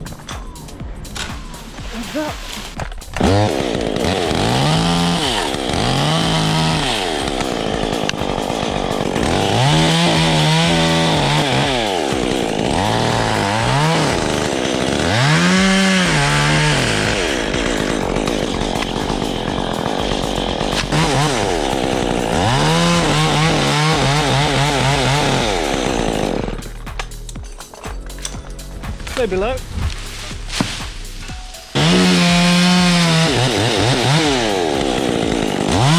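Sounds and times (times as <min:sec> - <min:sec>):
chainsaw revving: 0:00.0 - 0:35.9.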